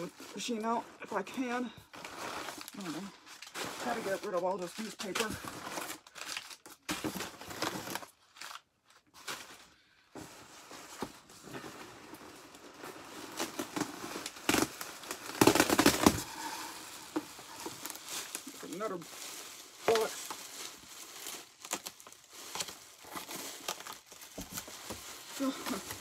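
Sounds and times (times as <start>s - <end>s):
newspaper crumpling and rustling: 0.0s - 26.0s.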